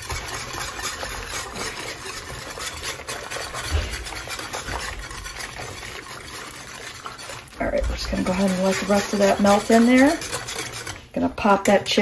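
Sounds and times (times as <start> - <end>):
whisk scraping pot: 0.0 - 12.0.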